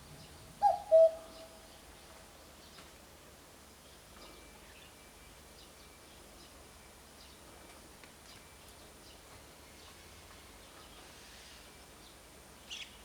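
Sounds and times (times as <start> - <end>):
steady background hiss: 0.0 - 7.7, 8.3 - 13.0.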